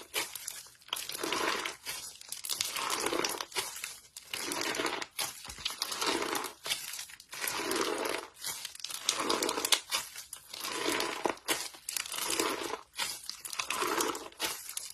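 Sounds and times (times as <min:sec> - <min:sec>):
slime crackling when squeezed: 0:00.0 - 0:14.9.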